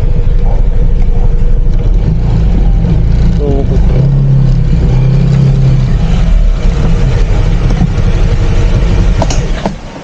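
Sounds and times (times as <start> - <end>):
scooter engine humming: 0.0 - 10.0
wind rumble on microphone: 1.6 - 9.9.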